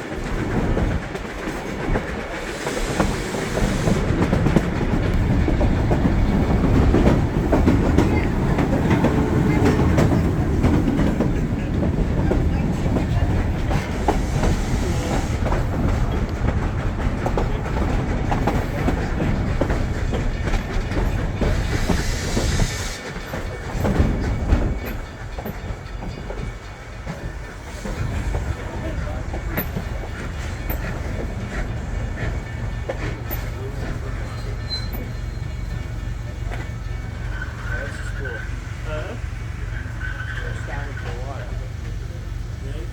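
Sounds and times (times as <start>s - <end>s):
wheels clicking over rail joints: 0.0s - 38.2s
train rumbling along track: 0.0s - 42.9s.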